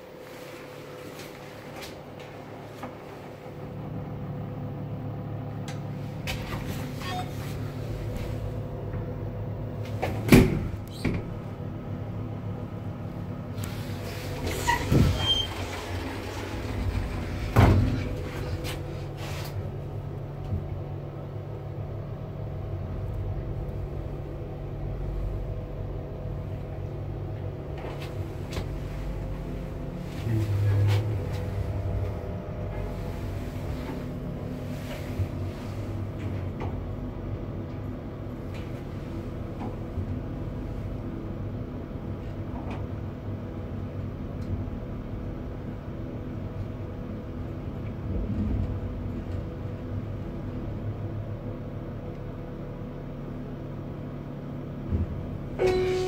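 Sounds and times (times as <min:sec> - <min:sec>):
lift mechanical hum: 0:00.0 - 0:56.0.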